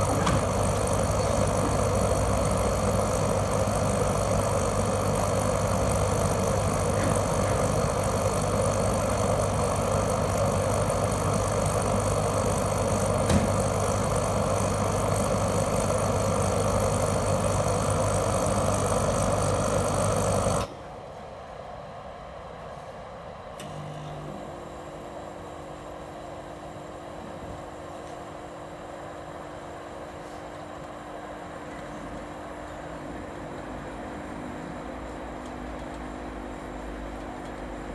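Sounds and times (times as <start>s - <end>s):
heater burner and fan rushing: 0.0s - 37.9s.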